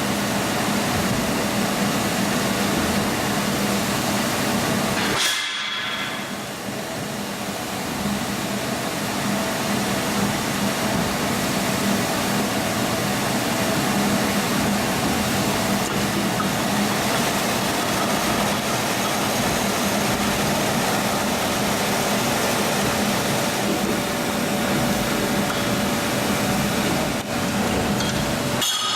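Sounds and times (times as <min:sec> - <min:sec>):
machine running: 0:00.0 - 0:28.9.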